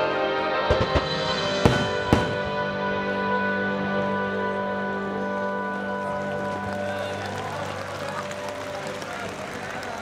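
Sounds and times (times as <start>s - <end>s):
music with long held notes: 0.0s - 10.0s.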